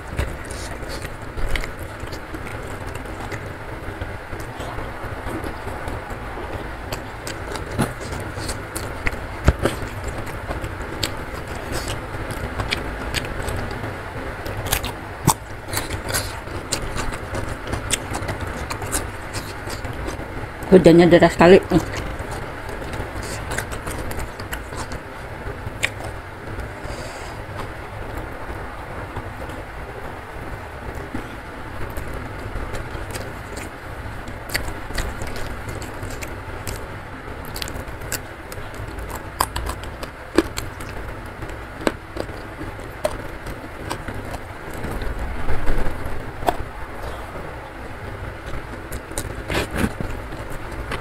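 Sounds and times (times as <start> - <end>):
chewing and eating: 0.0 - 51.0.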